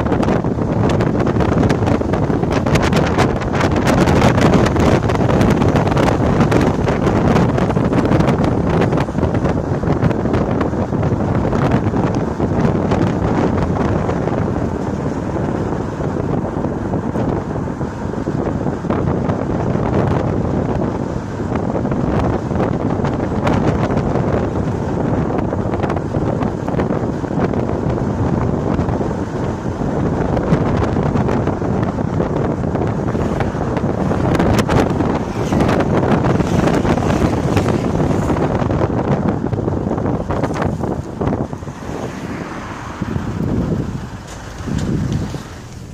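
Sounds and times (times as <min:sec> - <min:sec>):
road noise: 0:00.0 - 0:45.9
wind buffeting microphone: 0:00.0 - 0:45.9.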